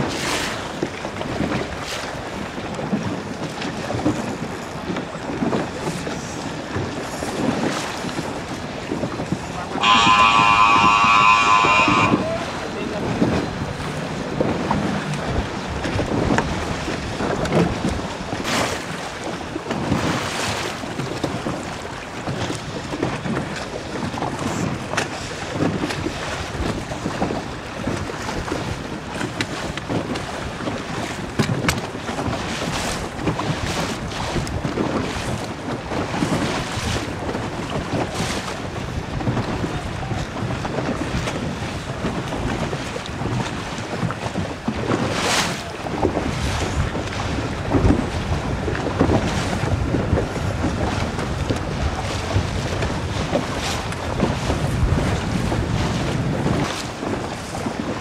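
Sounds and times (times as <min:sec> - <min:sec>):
waves splashing: 0:00.0 - 0:58.0
wind buffeting microphone: 0:00.0 - 0:58.0.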